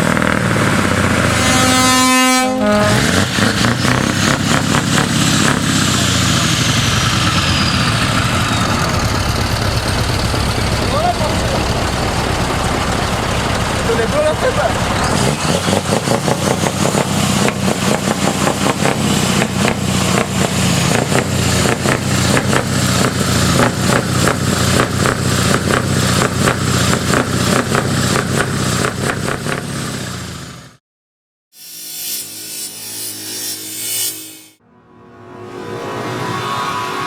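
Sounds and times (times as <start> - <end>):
truck engine running: 0.0 - 30.8.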